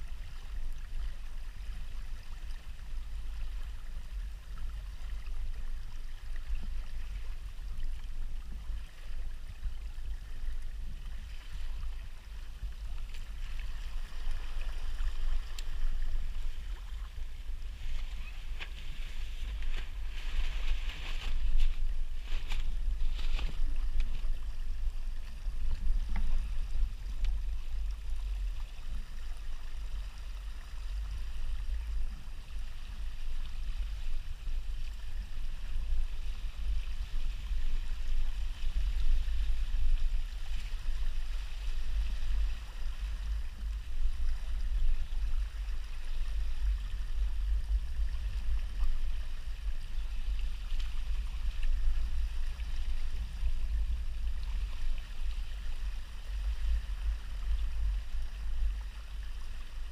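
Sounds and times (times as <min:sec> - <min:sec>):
water rushing along hull: 0:00.0 - 0:59.9
wind rumble on microphone: 0:00.0 - 0:59.9.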